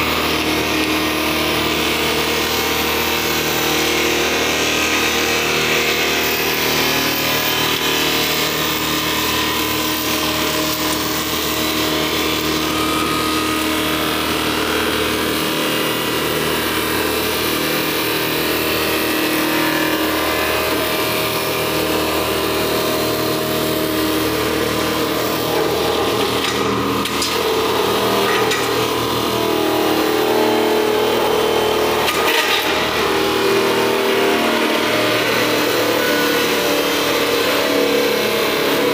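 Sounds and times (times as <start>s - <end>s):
machine grinding wood: 0.0s - 38.9s
motor hum: 0.0s - 38.9s.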